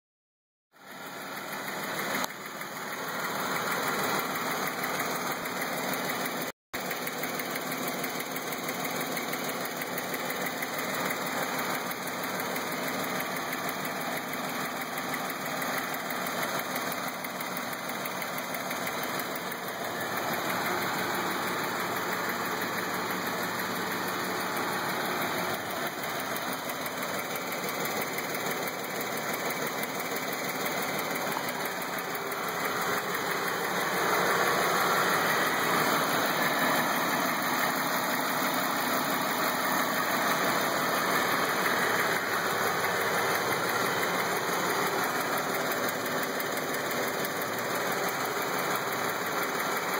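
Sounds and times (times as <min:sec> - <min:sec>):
car engine idling: 0:00.7 - 0:49.9
engine ticking: 0:00.7 - 0:49.9.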